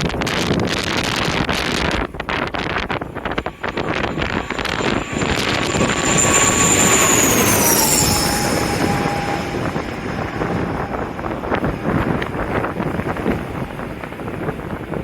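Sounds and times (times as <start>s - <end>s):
airliner passing overhead: 0.0s - 15.0s
wind buffeting microphone: 0.0s - 15.0s.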